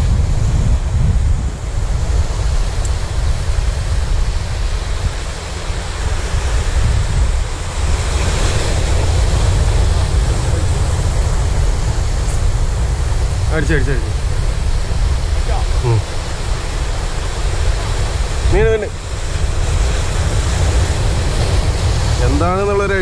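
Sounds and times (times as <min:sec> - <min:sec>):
surf washing over rocks: 0:00.0 - 0:23.0
wind buffeting microphone: 0:00.0 - 0:23.0.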